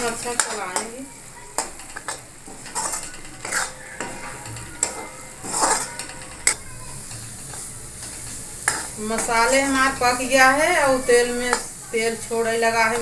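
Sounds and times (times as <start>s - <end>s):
metal spatula scraping a pan: 0.0s - 13.0s
paste sizzling in oil: 0.0s - 13.0s.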